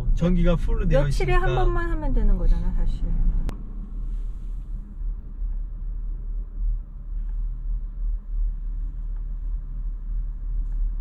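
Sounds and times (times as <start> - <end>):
road and tyre noise in car: 0.0 - 11.0.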